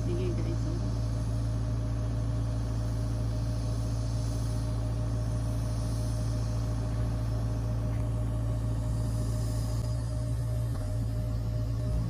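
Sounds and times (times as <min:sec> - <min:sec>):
machinery engine humming: 0:00.0 - 0:12.0.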